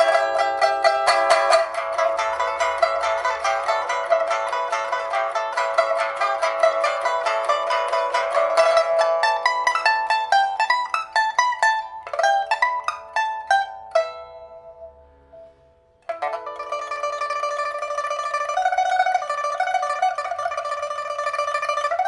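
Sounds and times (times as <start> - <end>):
pipa rapidly plucked: 0.0 - 22.0.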